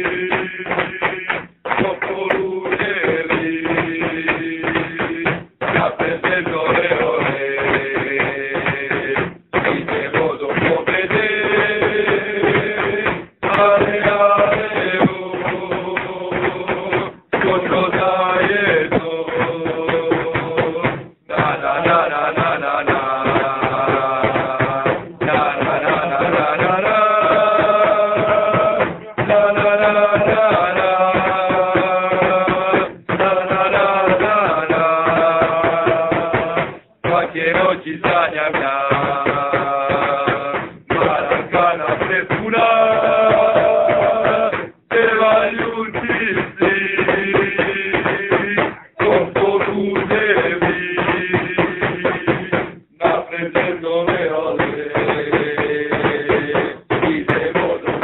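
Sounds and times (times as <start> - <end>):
beating drum: 0.0 - 58.0
football supporters singing: 0.0 - 58.0.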